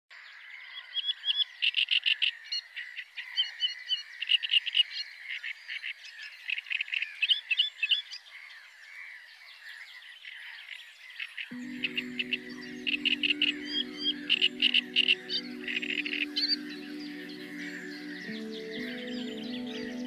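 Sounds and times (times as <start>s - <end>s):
frogs croaking in chorus: 0.4s - 20.0s.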